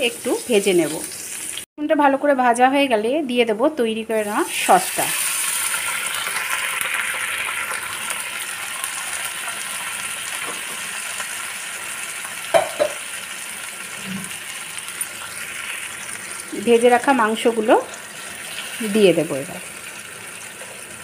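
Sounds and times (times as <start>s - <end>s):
sauce sizzling in a frying pan: 0.0s - 1.7s, 4.2s - 21.0s.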